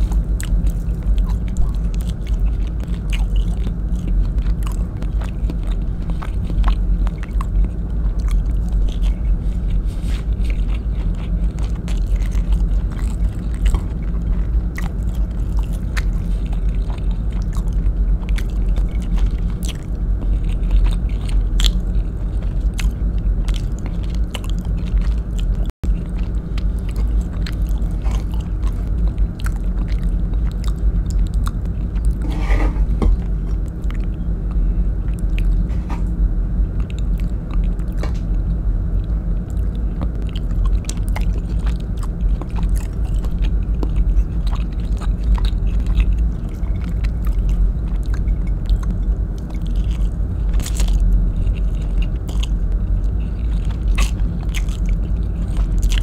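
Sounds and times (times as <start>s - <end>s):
close chewing and mouth clicks: 0.0s - 56.0s
steady low rumble: 0.0s - 56.0s.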